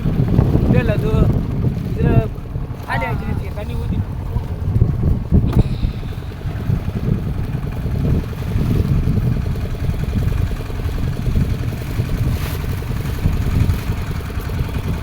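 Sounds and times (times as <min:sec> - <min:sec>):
boat engine throbbing: 0:00.0 - 0:15.0.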